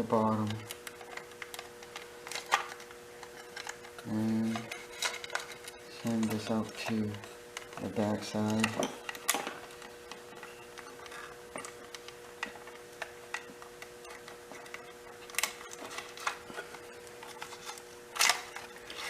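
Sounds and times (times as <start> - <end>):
faint steady hum: 0.0 - 19.0
wires and switch parts clicking: 0.0 - 19.0.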